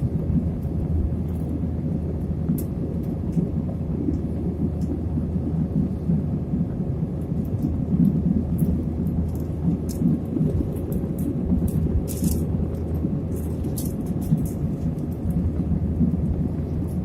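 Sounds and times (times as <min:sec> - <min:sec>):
airliner engines roaring: 0:00.0 - 0:17.0.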